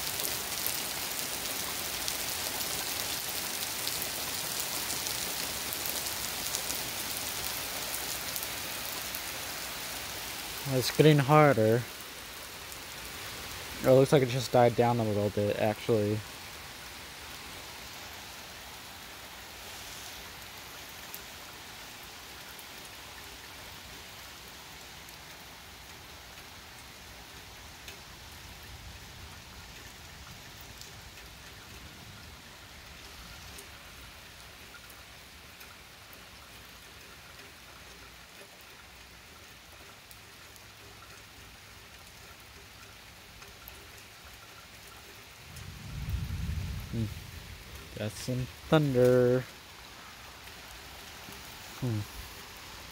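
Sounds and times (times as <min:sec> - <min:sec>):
rain pouring onto pavement: 0:00.0 - 0:52.9.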